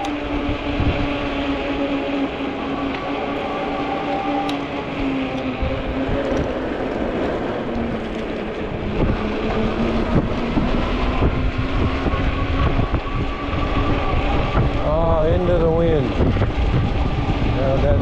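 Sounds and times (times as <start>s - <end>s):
electric motor whining: 0.0s - 18.0s
wind buffeting microphone: 0.0s - 18.0s.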